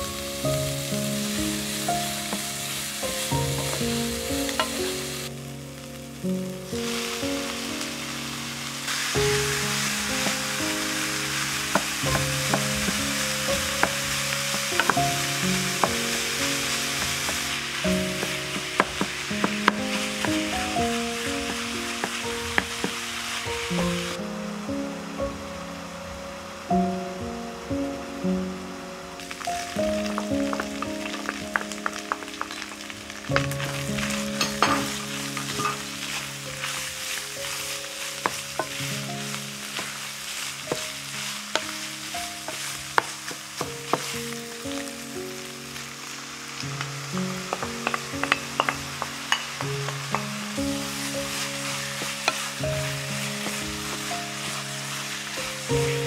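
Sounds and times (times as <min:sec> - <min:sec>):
background music with held notes: 0:00.0 - 0:56.0
meat sizzling in a frying pan: 0:00.0 - 0:56.0.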